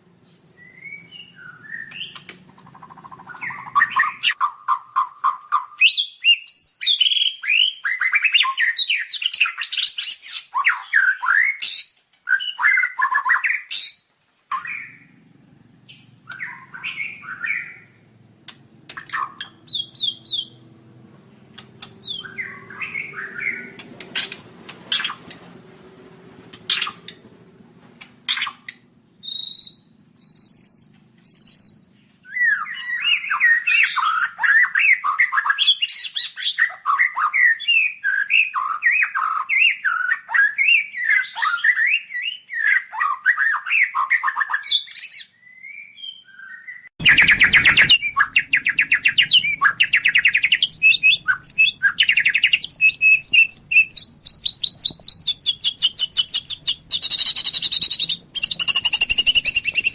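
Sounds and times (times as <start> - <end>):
songbird singing: 0.2 - 25.4, 28.0 - 43.1, 44.8 - 59.9.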